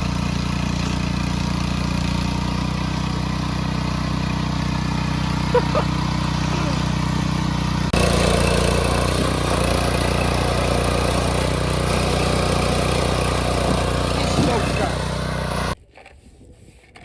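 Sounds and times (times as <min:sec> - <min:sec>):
engine idling hum: 0:00.0 - 0:15.8.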